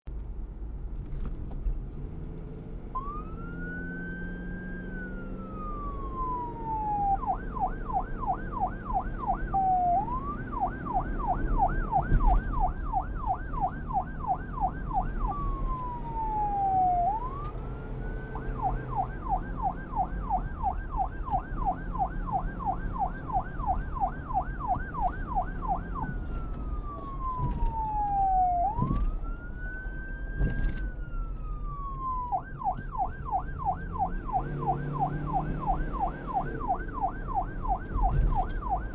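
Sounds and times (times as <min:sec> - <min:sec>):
police siren wail and yelp: 0:02.9 - 0:38.9.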